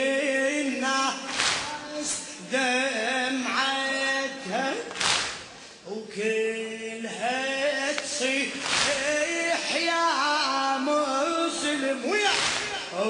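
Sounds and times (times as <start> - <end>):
man singing a lament: 0.0 - 5.0, 5.8 - 13.0.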